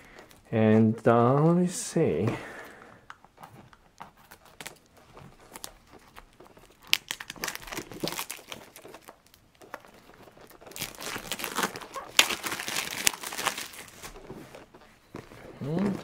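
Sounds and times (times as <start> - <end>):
plastic wrap crinkling: 2.7 - 16.0.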